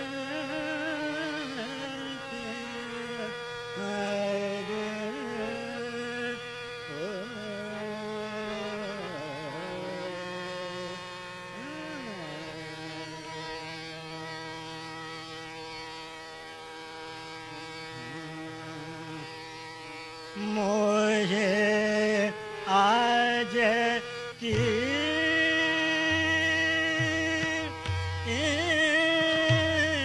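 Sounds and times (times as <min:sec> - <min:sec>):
man singing classical vocal line: 0:00.0 - 0:15.9, 0:17.2 - 0:30.0
buzzing drone: 0:00.0 - 0:30.0.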